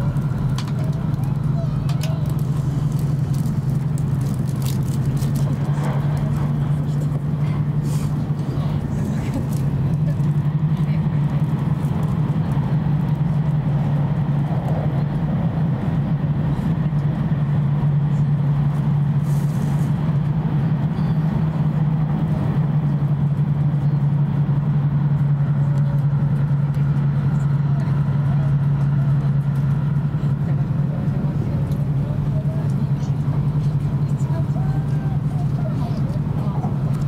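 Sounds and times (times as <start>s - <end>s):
train cabin running hum: 0.0s - 37.0s.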